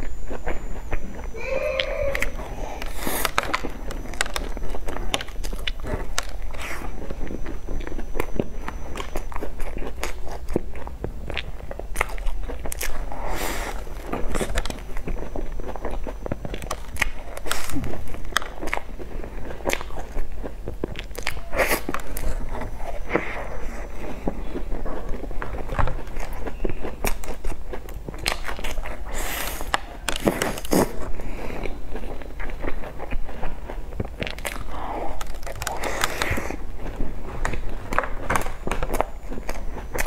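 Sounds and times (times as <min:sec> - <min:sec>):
chewing crisp pastry: 0:00.0 - 0:40.0.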